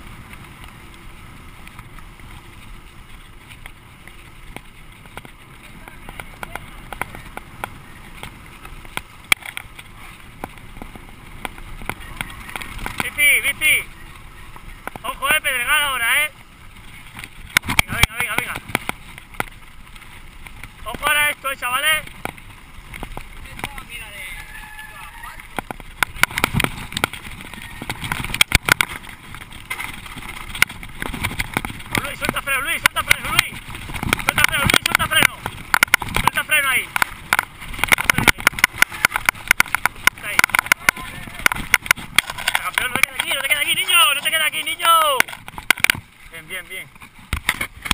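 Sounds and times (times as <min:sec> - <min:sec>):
bike tyres knocking and rattling: 0:00.0 - 0:47.9
wind and tyre noise: 0:00.0 - 0:47.9.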